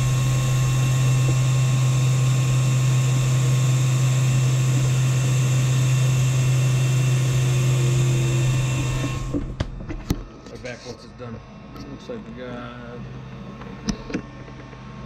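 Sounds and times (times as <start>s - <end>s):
laser engraver hum: 0.0s - 15.0s.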